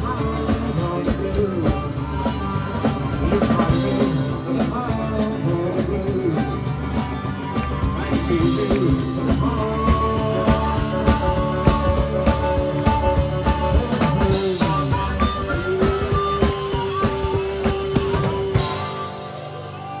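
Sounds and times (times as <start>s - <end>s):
upright bass: 0.0s - 19.7s
acoustic guitar: 0.0s - 20.0s
amplified harmonica wailing: 0.0s - 20.0s
drums: 0.0s - 20.0s.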